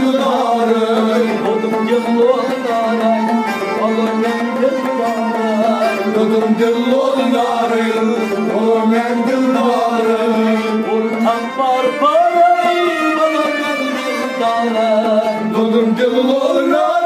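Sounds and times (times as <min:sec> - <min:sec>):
harmonium melody over drone: 0:00.0 - 0:17.0.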